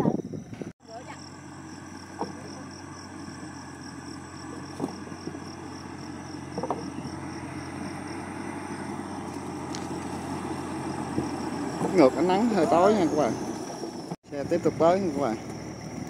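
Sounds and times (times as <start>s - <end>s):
tractor diesel engine running: 0.3s - 16.0s.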